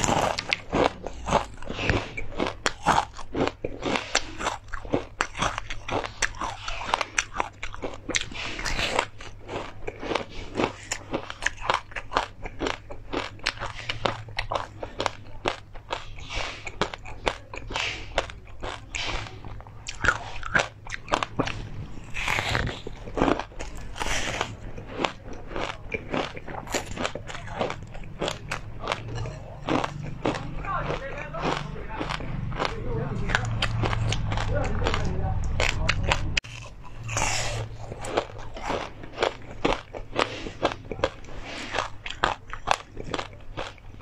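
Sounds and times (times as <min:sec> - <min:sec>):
crunching and chewing: 0:00.0 - 0:44.0.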